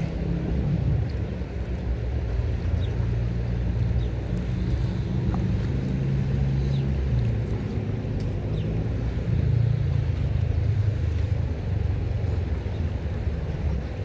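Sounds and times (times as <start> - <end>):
flowing river: 0.0 - 14.0
wind buffeting microphone: 0.0 - 14.0.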